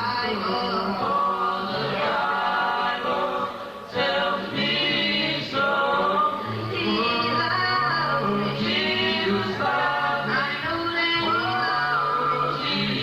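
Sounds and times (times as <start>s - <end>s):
vocal group singing in harmony: 0.0s - 13.0s.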